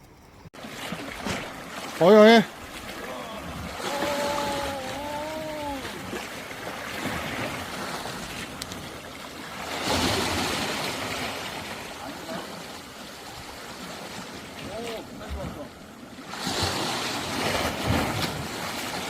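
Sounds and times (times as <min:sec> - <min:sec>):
sea waves washing against rocks: 0:00.5 - 0:19.0.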